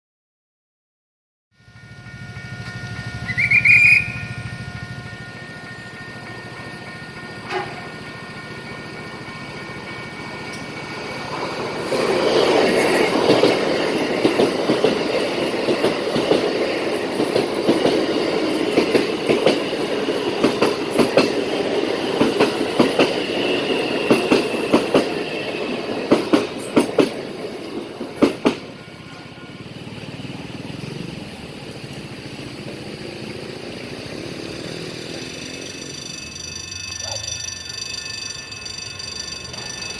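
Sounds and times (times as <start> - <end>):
train wheels clicking over rails: 2.0 - 39.9.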